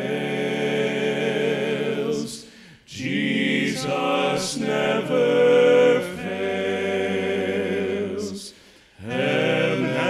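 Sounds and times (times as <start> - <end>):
men singing a cappella: 0.0 - 10.0.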